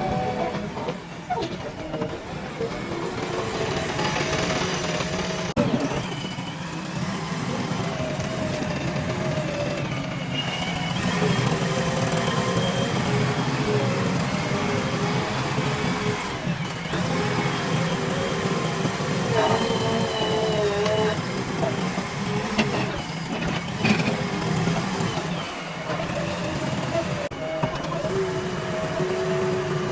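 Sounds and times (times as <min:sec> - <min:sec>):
diesel engine under load: 0:00.0 - 0:29.9
hydraulic whine: 0:00.0 - 0:29.9.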